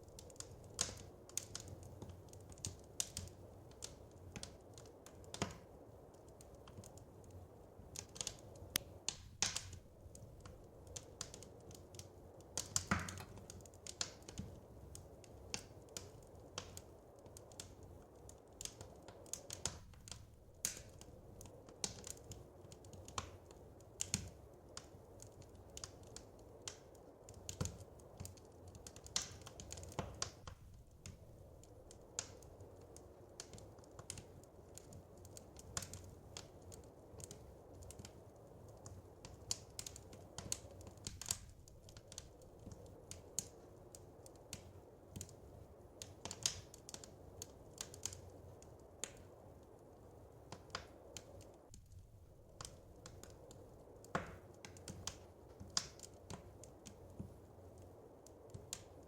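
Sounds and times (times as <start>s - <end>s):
soft steady low noise: 0.0s - 59.0s
wood fire crackling: 0.0s - 59.0s.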